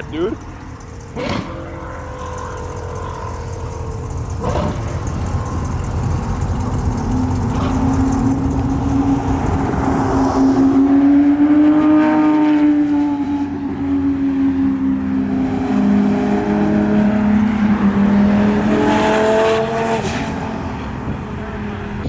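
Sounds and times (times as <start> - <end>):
performance car engine: 0.0 - 22.0.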